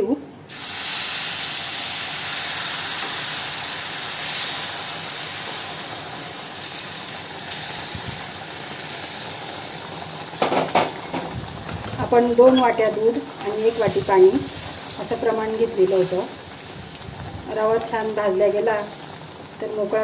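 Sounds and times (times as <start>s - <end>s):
hissing and sizzling in hot pan: 0.5s - 20.0s.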